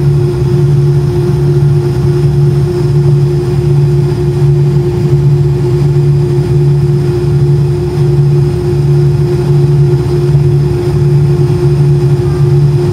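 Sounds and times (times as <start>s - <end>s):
jet engines droning in cabin: 0.0s - 12.9s
steady higher tone: 0.0s - 12.9s.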